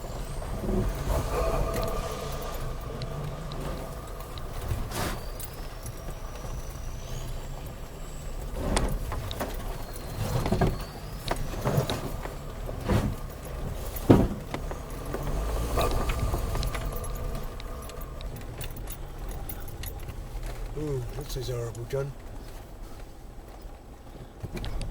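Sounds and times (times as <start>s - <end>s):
car jolting over rocks: 0.0s - 22.4s
low engine rumble: 0.0s - 24.9s.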